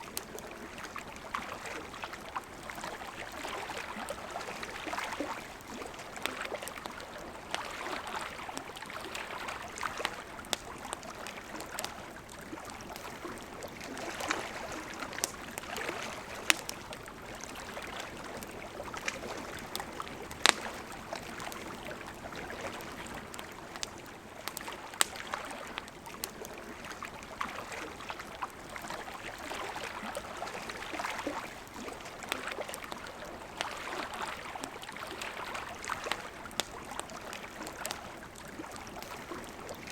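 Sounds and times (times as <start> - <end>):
campfire crackling: 0.0 - 39.9
river water flowing: 0.0 - 39.9.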